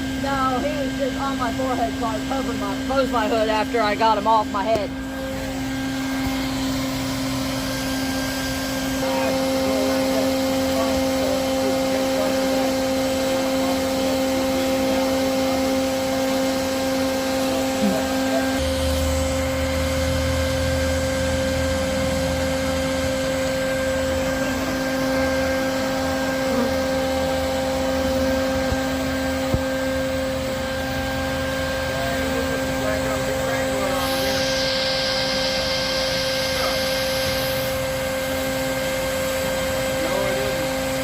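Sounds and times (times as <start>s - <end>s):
vacuum motor whining hum: 0.0s - 41.0s.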